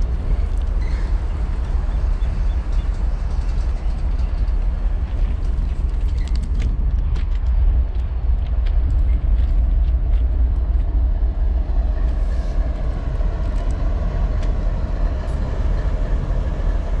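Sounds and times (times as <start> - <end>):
locomotive engine rumbling: 0.0 - 17.0
wheels clicking on rails: 0.0 - 17.0.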